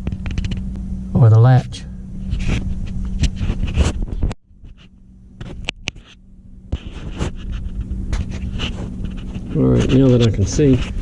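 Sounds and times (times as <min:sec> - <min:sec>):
camera handling scraping and rubbing: 0:00.0 - 0:00.7, 0:02.2 - 0:11.0.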